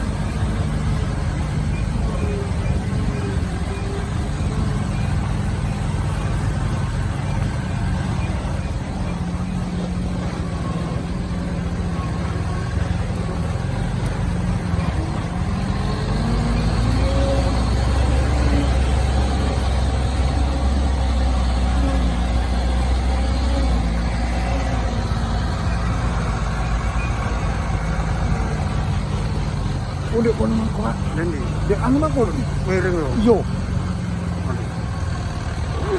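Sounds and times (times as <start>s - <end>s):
truck engine running: 0.0s - 35.9s.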